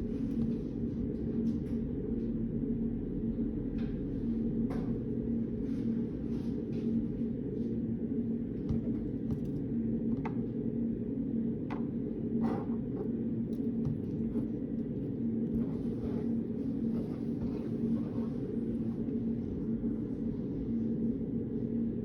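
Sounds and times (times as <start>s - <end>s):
low background hum with tone: 0.0s - 22.0s.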